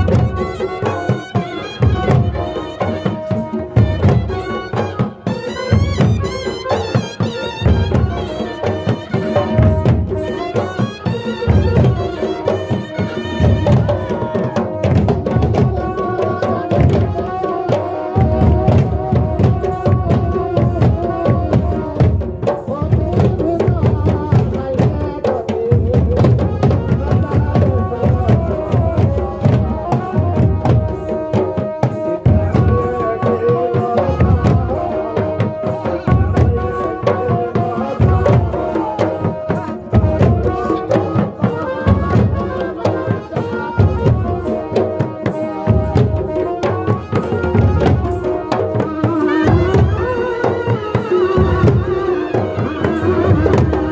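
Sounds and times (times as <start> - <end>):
hand drums beating: 0.0 - 53.9.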